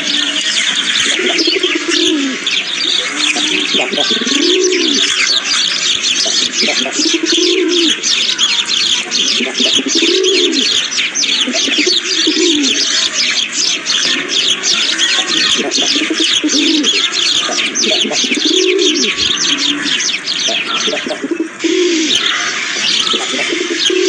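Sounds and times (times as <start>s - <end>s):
dove cooing: 0.0s - 24.0s
songbirds chirping: 0.0s - 24.0s.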